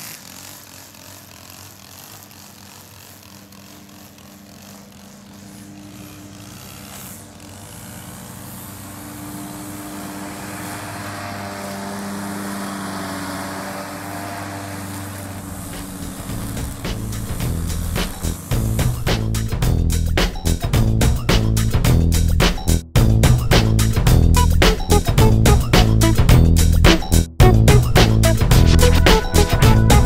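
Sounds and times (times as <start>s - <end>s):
riding lawn mower engine running: 0.0s - 30.0s.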